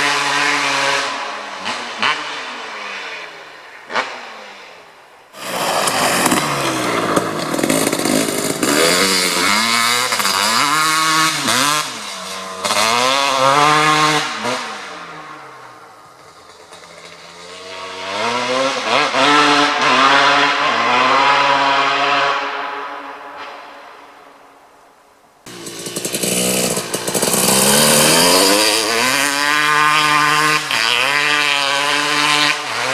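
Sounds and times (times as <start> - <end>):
two-stroke engine revving: 0.0 - 4.3, 5.4 - 22.6, 25.5 - 32.9.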